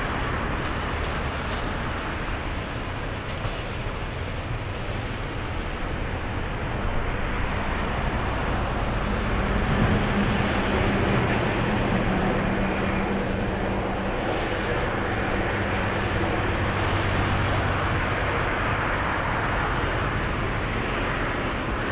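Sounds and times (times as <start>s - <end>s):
jet engines roaring at takeoff: 0.0s - 21.9s.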